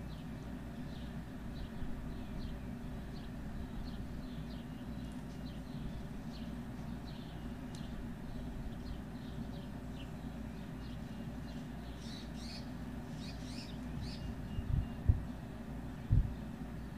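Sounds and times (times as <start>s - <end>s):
low outdoor rumble: 0.0s - 16.9s
songbirds chirping: 0.0s - 16.9s.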